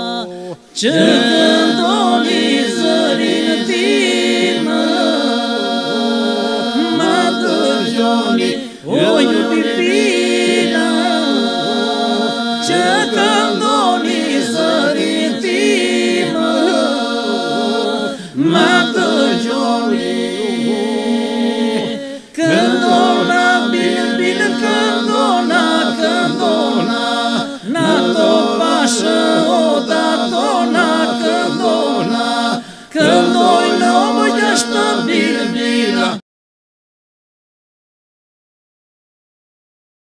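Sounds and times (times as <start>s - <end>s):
men singing a cappella: 0.0s - 36.2s.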